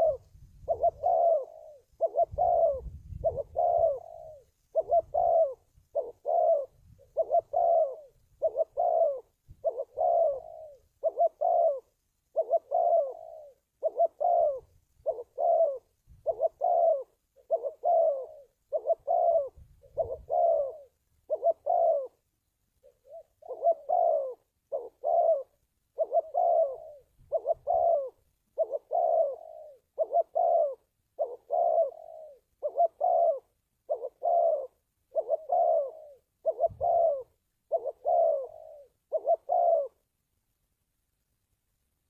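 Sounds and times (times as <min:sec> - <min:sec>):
dove cooing: 0:00.0 - 0:40.1.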